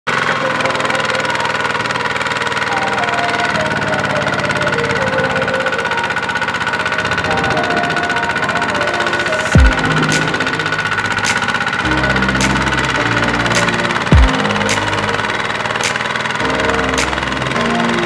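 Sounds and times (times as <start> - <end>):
diesel engine puttering: 0.1 - 18.0.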